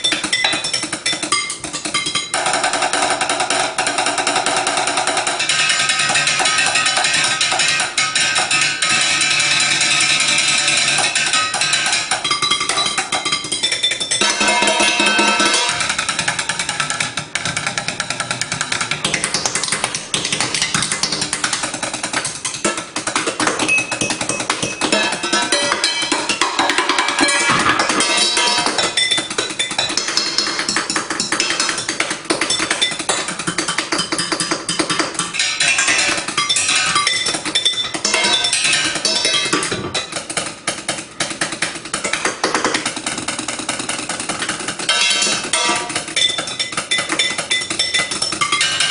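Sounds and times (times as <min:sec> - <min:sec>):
pans ringing: 0:00.0 - 0:17.3, 0:19.0 - 0:48.9
chopsticks drumming on pots: 0:00.0 - 0:48.9.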